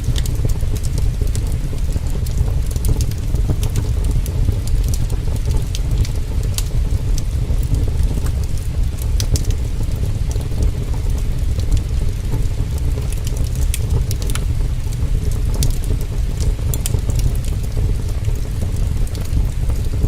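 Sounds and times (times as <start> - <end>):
heavy rain: 0.0 - 20.0
wood fire crackling: 0.0 - 20.0.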